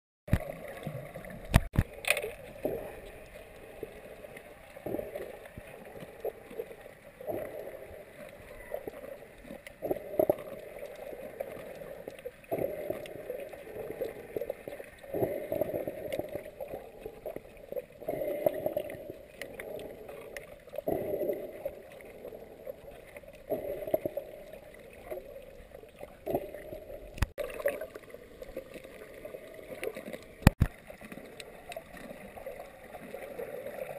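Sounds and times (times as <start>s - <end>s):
underwater water swishes: 0.3s - 33.9s.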